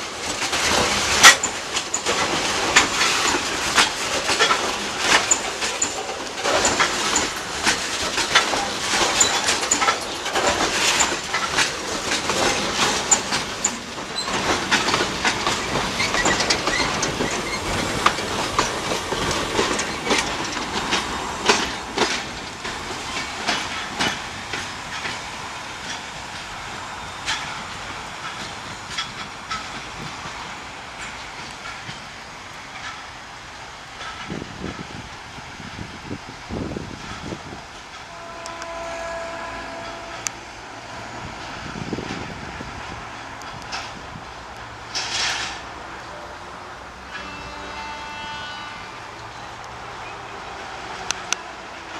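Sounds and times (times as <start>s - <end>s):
train wheels clacking over rail joints: 0.0s - 51.9s.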